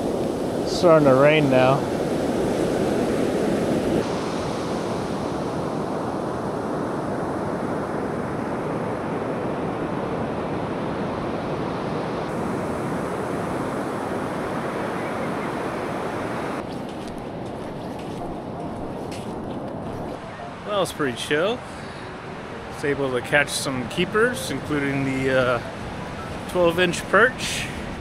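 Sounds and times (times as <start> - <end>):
ocean surf rushing: 0.0 - 28.0.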